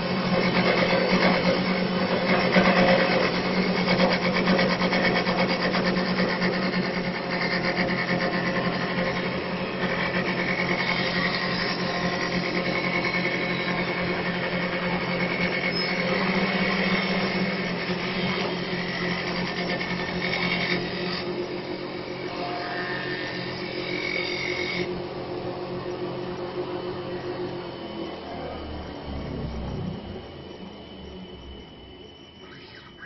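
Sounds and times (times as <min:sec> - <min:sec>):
lathe cutting wood: 0:00.0 - 0:28.6
mechanical whine: 0:00.0 - 0:33.0.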